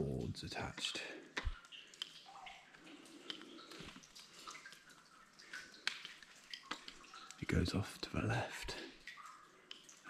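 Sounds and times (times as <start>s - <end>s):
low water trickle: 0.0s - 10.0s
water drips and plinks: 0.0s - 10.0s.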